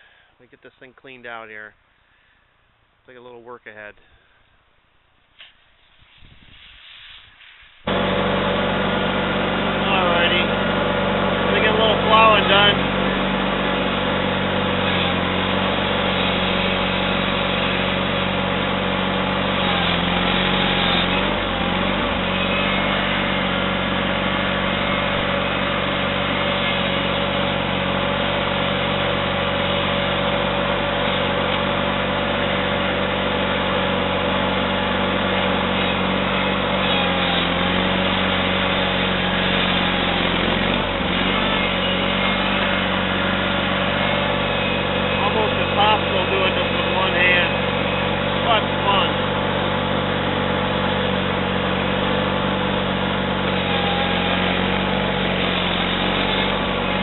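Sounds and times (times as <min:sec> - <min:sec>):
small tractor engine under load: 0:07.8 - 0:57.0.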